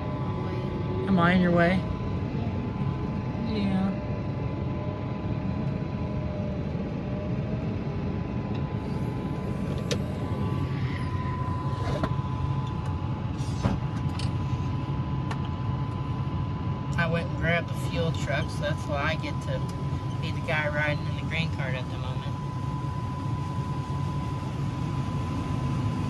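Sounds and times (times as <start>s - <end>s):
thin steady whine: 0.0s - 26.0s.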